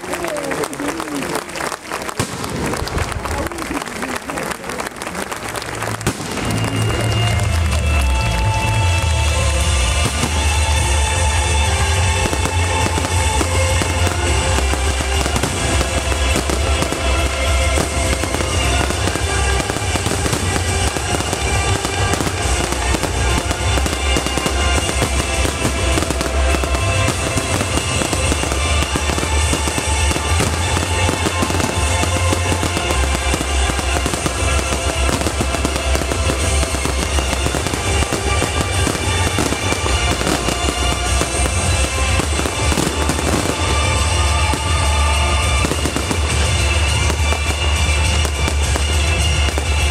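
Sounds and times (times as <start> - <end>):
fireworks bursting and crackling: 0.0 - 49.9
loud music: 5.5 - 49.9.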